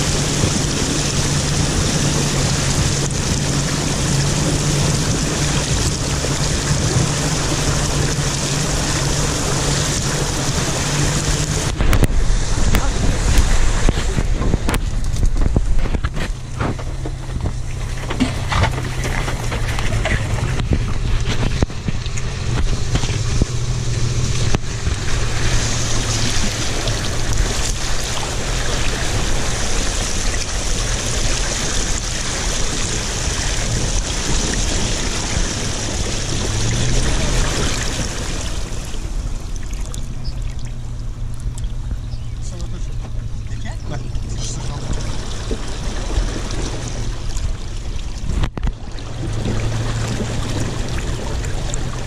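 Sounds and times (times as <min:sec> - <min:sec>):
vehicle engine droning: 0:00.0 - 0:52.0
water rushing and splashing: 0:00.0 - 0:52.0.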